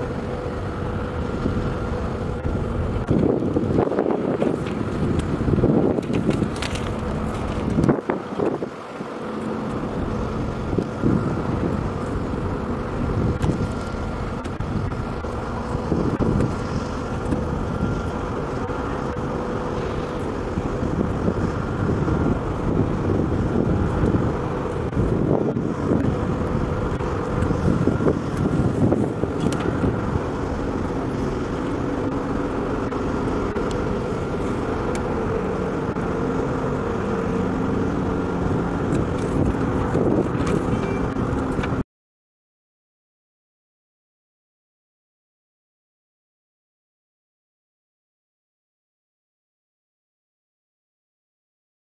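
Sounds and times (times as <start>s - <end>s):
small helicopter droning: 0.0s - 41.7s
wind on microphone: 0.0s - 41.8s.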